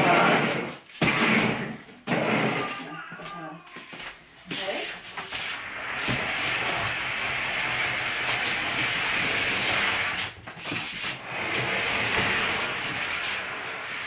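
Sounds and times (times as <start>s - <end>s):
furniture dragged across wooden floor: 0.0s - 2.8s, 4.5s - 14.0s.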